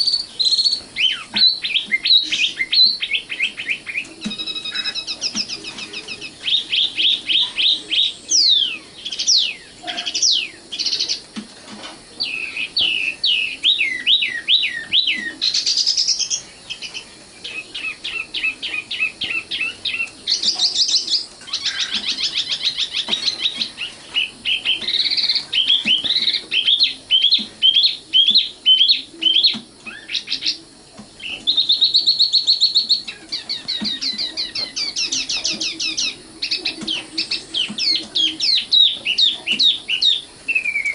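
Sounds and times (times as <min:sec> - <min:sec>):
nightingale singing: 0:00.0 - 0:11.3, 0:12.1 - 0:40.9.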